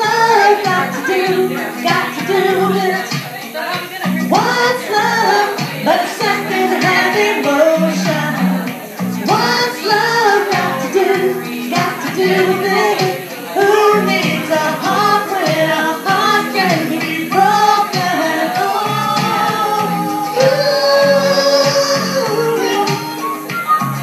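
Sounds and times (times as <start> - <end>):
woman singing into microphone: 0.0 - 24.0.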